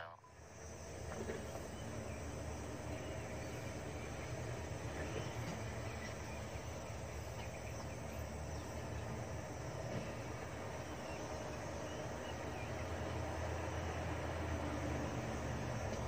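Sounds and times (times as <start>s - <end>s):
diesel machinery idling: 0.0s - 16.0s
insects chirping: 0.0s - 16.0s.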